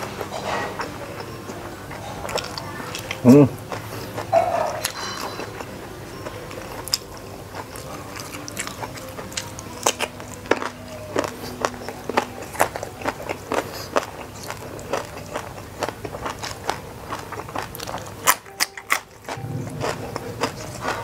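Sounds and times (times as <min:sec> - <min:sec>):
crunchy chewing of raw vegetables: 0:00.0 - 0:21.0.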